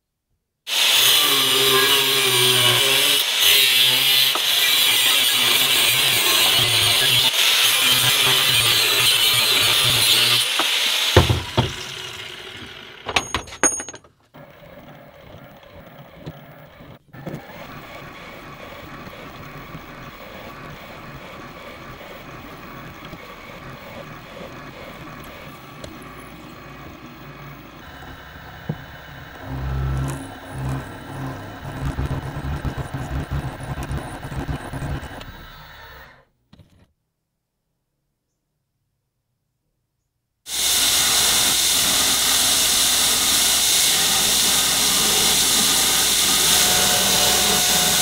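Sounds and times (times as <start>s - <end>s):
angle grinder cutting metal: 0.7s - 13.4s, 17.2s - 36.0s, 40.5s - 48.0s
milling machine cutting metal: 0.7s - 13.5s, 14.4s - 36.0s, 40.5s - 48.0s.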